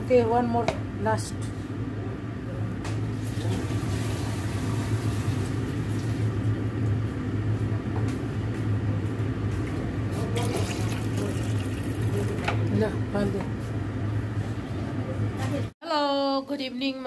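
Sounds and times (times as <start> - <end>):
cooling fan running: 0.0 - 15.8
low electrical hum of cooktop: 0.0 - 17.0.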